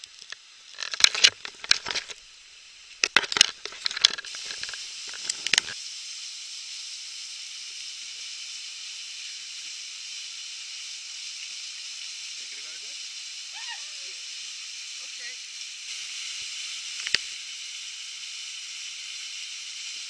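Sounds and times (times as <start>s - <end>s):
small waterfall pouring onto rock: 0.0s - 20.0s.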